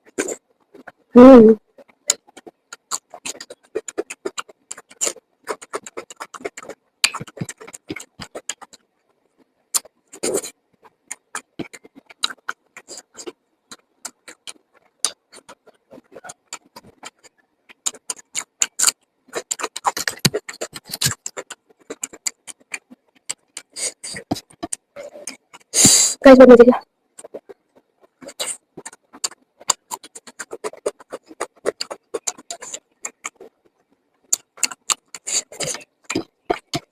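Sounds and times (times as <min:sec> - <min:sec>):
person chewing and smacking: 0:01.8 - 0:08.9, 0:09.7 - 0:25.8, 0:27.2 - 0:33.6, 0:34.2 - 0:36.9.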